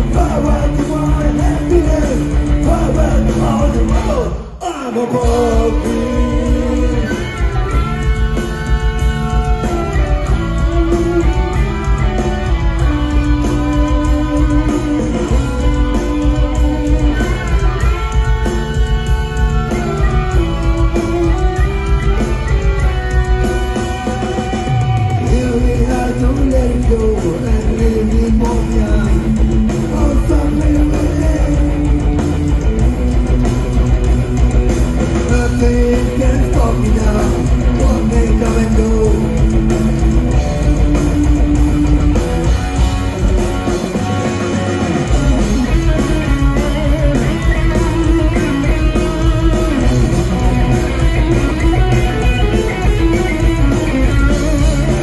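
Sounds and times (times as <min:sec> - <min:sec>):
bass: 0:00.0 - 0:55.0
drums: 0:00.0 - 0:55.0
electric guitars: 0:00.0 - 0:55.0.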